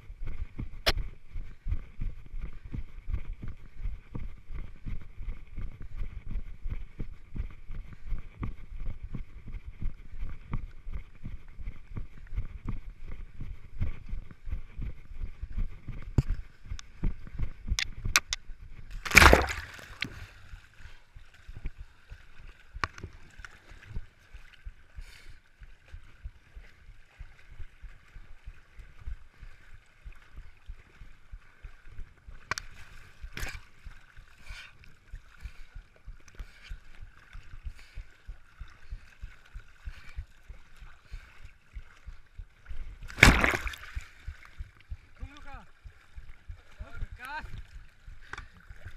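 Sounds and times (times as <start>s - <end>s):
water sloshing and splashing: 9.2s - 48.9s.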